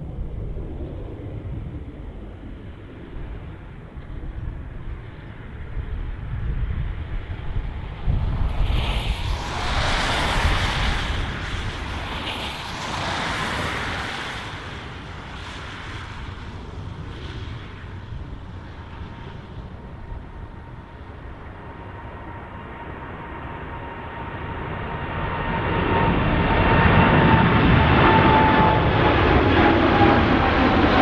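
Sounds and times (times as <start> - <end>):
jet airliner roar: 0.0 - 31.0
jet engine whine: 0.0 - 31.0.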